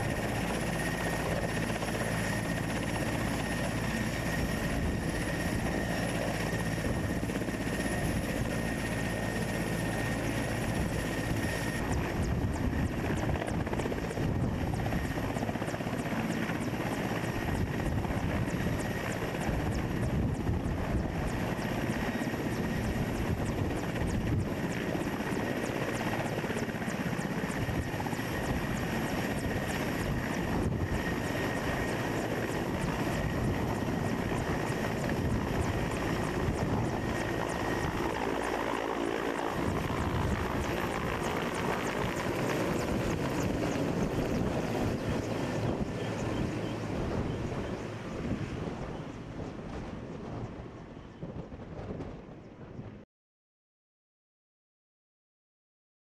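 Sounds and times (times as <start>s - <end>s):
helicopter turbine whine: 0.0s - 53.0s.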